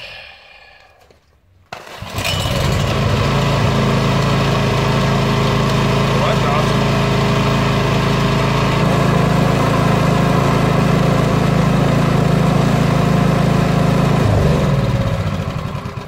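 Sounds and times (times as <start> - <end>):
snowblower engine running: 1.8 - 16.0.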